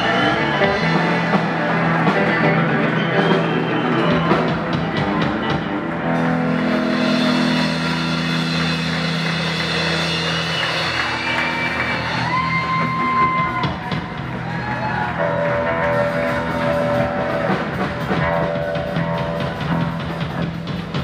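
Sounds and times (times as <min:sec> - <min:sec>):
drum kit: 0:00.0 - 0:21.0
electric guitars sustained notes: 0:00.0 - 0:21.0.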